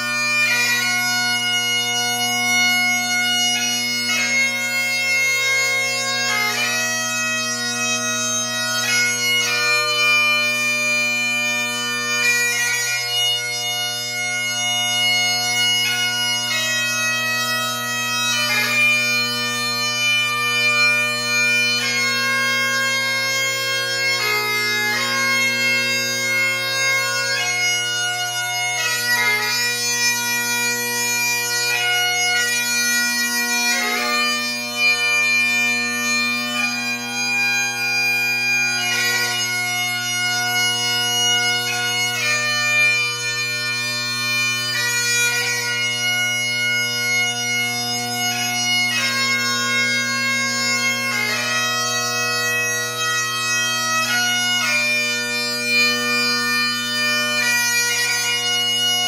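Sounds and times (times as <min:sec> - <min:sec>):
bagpipes playing slow lament: 0:00.0 - 0:59.0.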